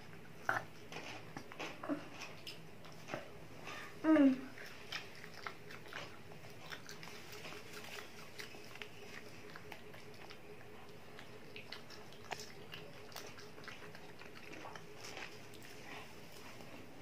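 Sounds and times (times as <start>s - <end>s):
faint chewing mouth sounds: 0.0s - 17.0s
steady low hum: 0.0s - 17.0s.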